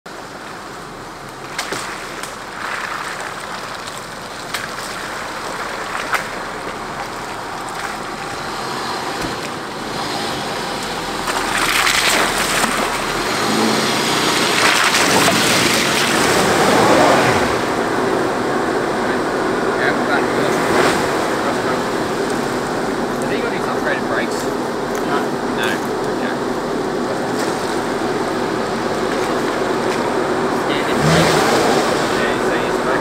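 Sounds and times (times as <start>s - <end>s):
tyres in mud: 0.5s - 18.1s, 20.2s - 33.0s
vehicle engine low note: 3.6s - 33.0s.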